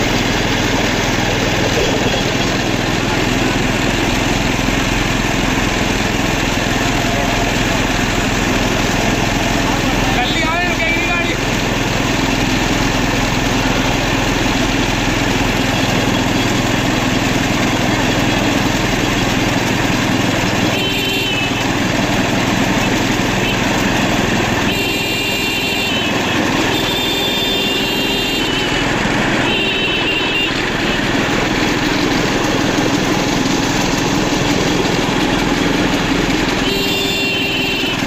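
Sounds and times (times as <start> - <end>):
small engine running steadily: 0.0 - 38.0.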